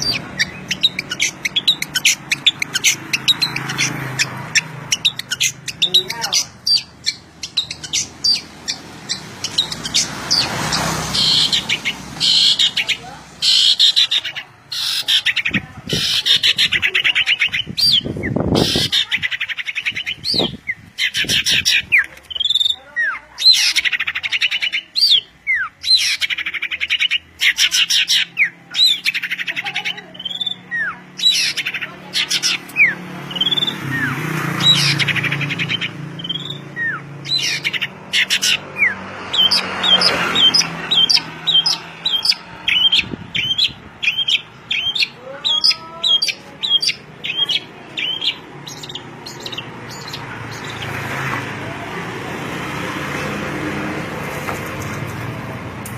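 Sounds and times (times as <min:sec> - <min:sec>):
songbirds singing: 0:00.0 - 0:53.3.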